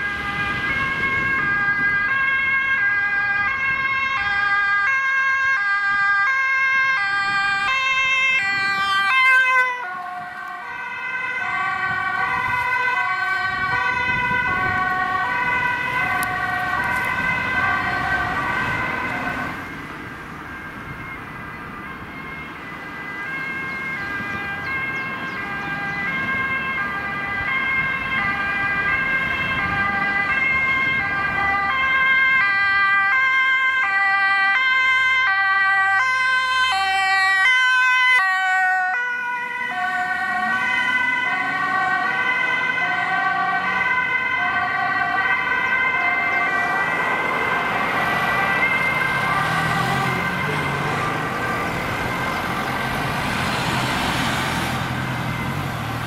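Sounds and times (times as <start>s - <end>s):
ambulance two-tone siren: 0.0s - 56.0s
traffic noise: 0.0s - 56.0s.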